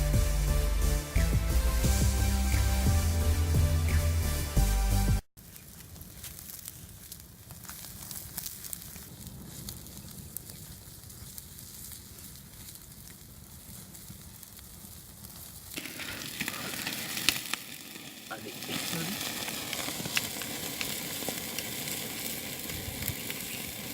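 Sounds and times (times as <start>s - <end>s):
fire crackling and popping: 0.0s - 4.6s, 5.4s - 23.9s.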